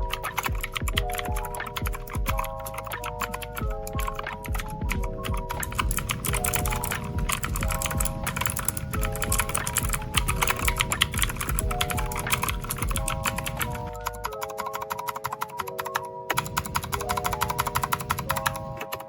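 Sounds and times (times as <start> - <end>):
background music with held chords: 0.0 - 19.0
clicky keyboard typing: 0.0 - 19.0.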